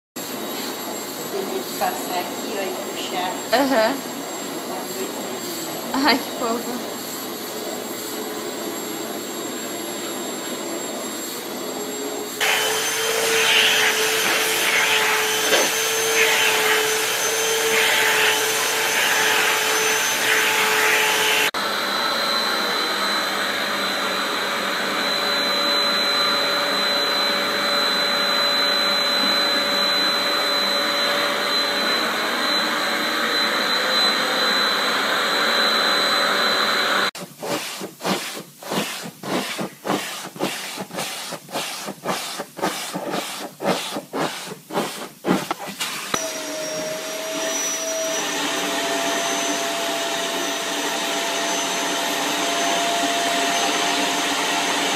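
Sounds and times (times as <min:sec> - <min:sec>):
vacuum cleaner whining: 0:00.2 - 0:54.9.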